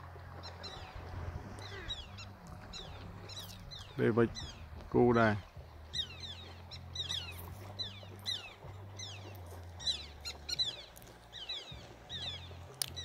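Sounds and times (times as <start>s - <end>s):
low rumble: 0.0s - 12.7s
birds calling: 0.2s - 13.0s.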